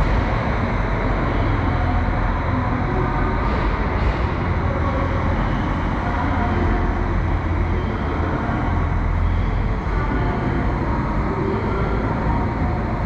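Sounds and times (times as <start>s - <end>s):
station noise: 0.0s - 13.0s
train low rumble: 0.0s - 13.0s.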